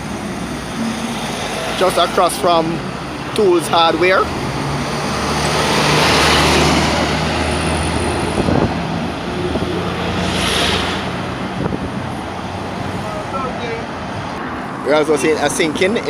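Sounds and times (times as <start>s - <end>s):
vehicles passing: 0.0s - 16.0s.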